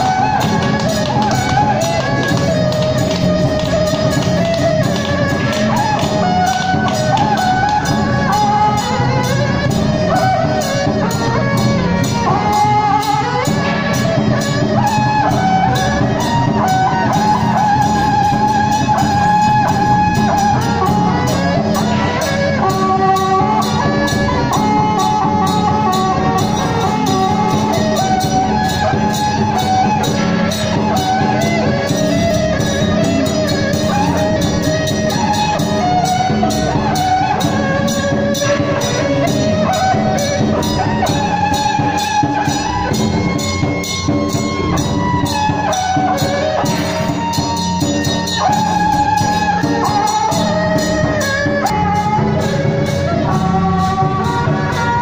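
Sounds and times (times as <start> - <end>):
fast drum and cymbal beats: 0.0 - 55.0
wandering melody: 0.0 - 55.0.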